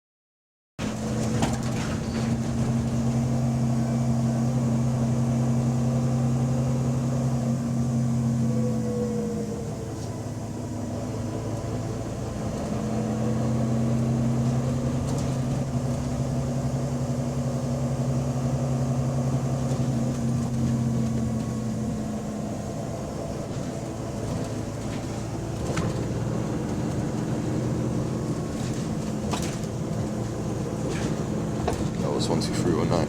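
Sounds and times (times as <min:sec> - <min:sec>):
bus diesel engine running: 0:00.8 - 0:33.0.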